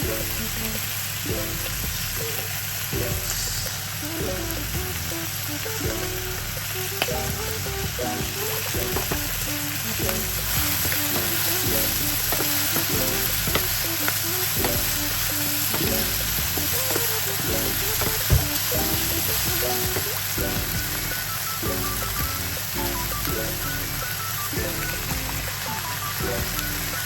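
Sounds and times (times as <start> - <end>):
food frying in oil: 0.0 - 27.0.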